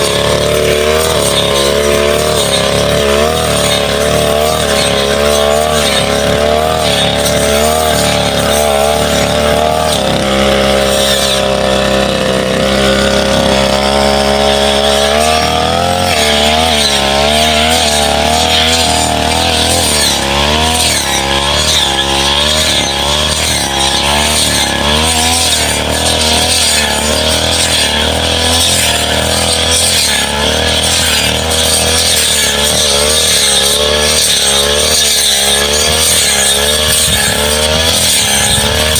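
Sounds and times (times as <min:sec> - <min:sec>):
brush cutter engine at high revs: 0:00.0 - 0:38.9.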